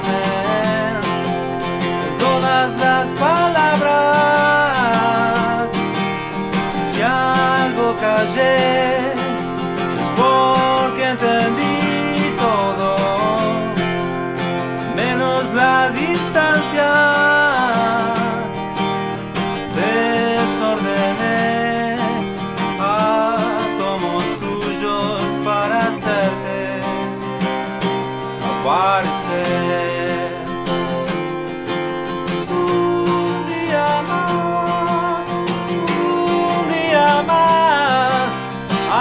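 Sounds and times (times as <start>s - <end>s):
acoustic guitar playing: 0.0s - 39.0s
man singing: 0.0s - 39.0s.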